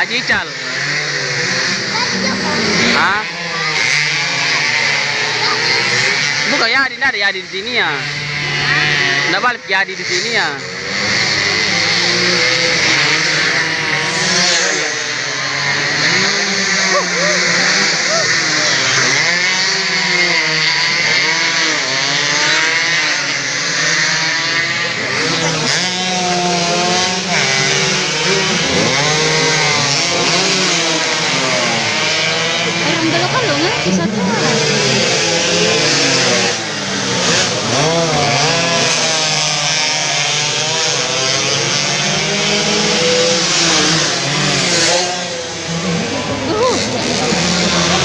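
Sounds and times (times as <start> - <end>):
motorcycles buzzing at high revs: 0.0 - 48.0.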